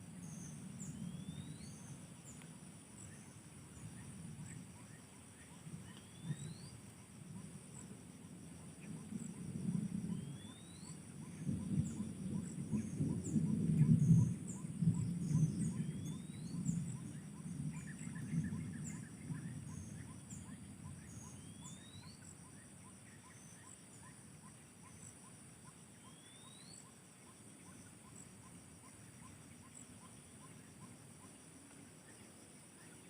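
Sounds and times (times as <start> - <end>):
high insect drone: 0.0 - 33.0
quick repeating insect chirp: 0.1 - 33.0.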